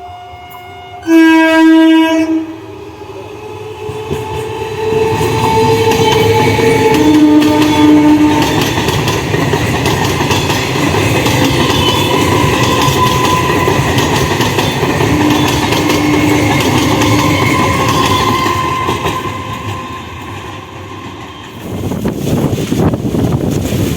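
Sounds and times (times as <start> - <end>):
train horn: 0.0 - 8.9, 11.3 - 21.6
train wheels clattering over rail joints: 3.9 - 23.9.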